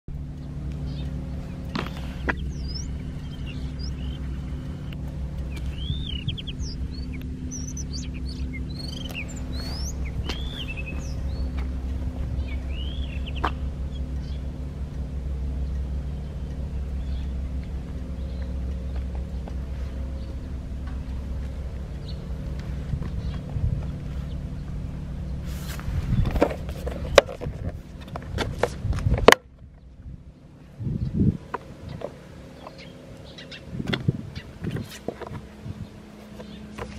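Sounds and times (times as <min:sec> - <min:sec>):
small birds chirping: 0:00.1 - 0:28.1, 0:29.6 - 0:36.9
motorcycle engine idling: 0:00.1 - 0:36.9
steady low rumble: 0:00.1 - 0:36.9.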